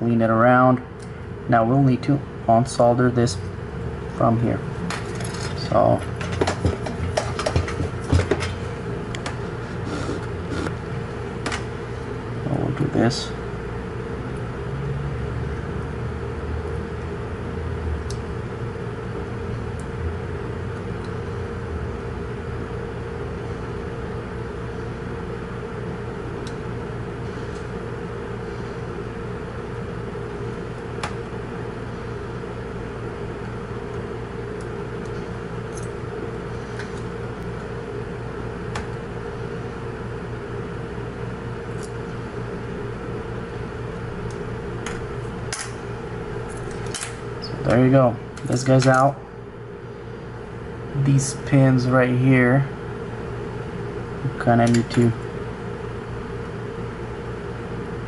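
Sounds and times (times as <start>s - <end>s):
small fan humming: 0.0s - 58.0s.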